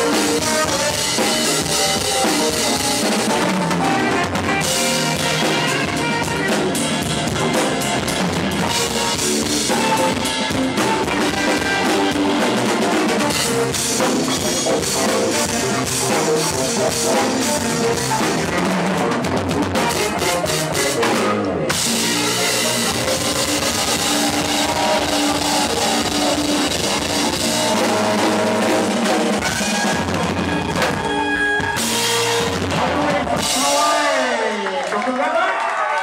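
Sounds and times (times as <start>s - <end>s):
drums and cymbals: 0.0s - 34.4s
live band playing: 0.0s - 35.0s.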